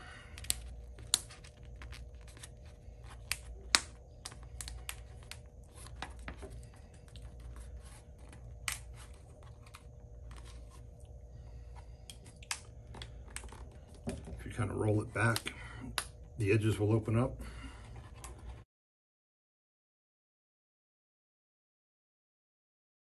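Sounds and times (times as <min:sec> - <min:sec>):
low steady hum: 0:00.0 - 0:18.6.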